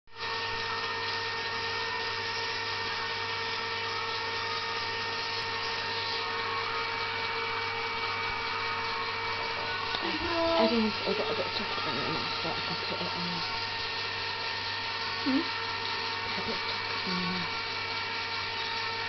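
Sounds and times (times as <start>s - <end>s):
fountain motor humming and whining: 0.1s - 19.0s.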